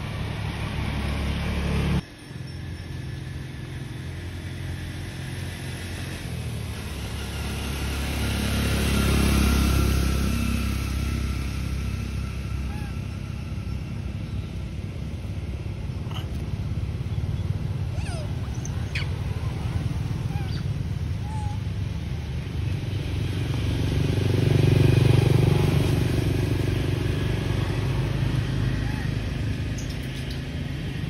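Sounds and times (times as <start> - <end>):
motor vehicle passing by: 0.0 - 31.0.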